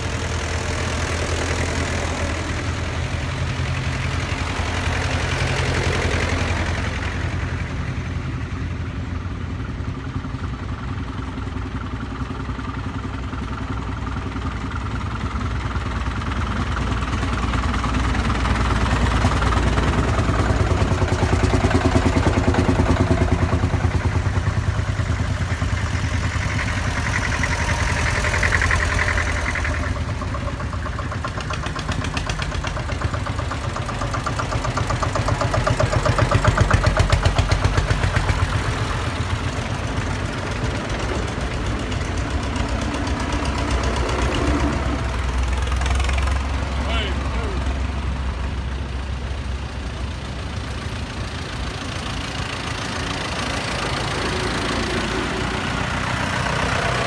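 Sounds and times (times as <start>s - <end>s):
tractor engines driving past: 0.0s - 57.0s.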